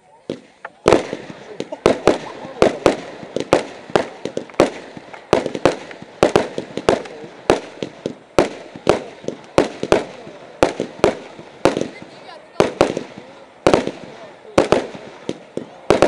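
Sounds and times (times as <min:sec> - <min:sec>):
fireworks bangs with echo: 0:00.2 - 0:16.0.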